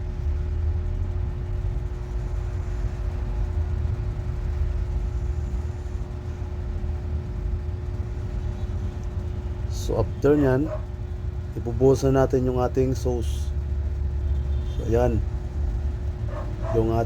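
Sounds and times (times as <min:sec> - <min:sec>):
low mechanical rumble with hum: 0:00.0 - 0:17.0.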